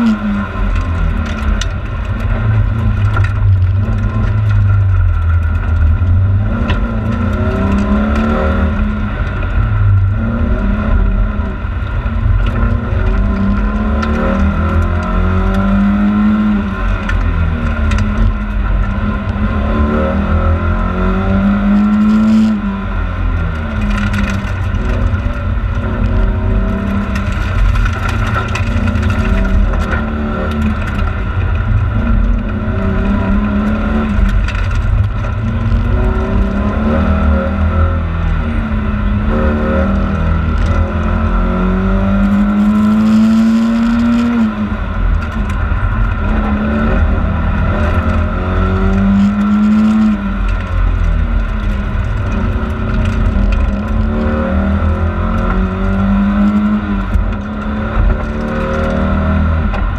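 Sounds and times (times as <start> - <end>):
car engine revving: 0.0 - 59.9
low road rumble: 0.0 - 59.9.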